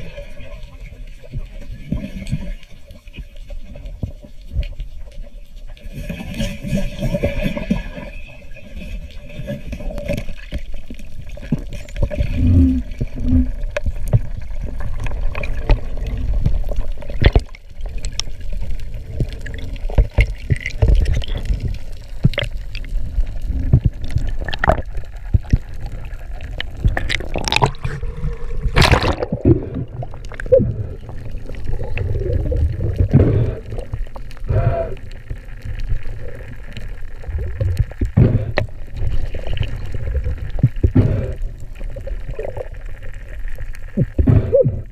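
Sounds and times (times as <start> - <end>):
underwater water rumble and gurgle: 0.0 - 44.9.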